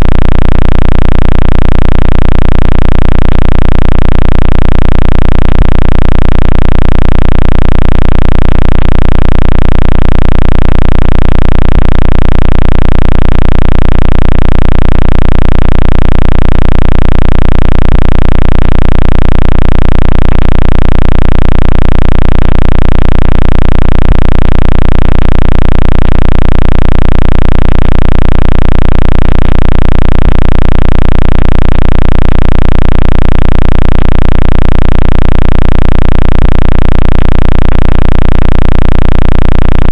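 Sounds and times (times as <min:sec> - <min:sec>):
loud throbbing electronic buzz: 0:00.0 - 0:39.9.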